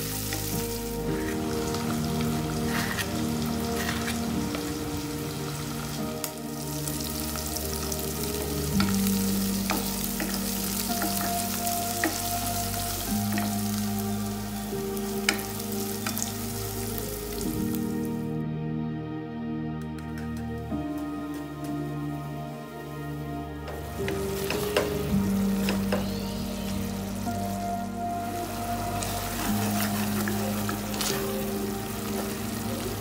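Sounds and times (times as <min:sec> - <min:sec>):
onions sizzling in hot oil: 0:00.0 - 0:18.1, 0:23.6 - 0:33.0.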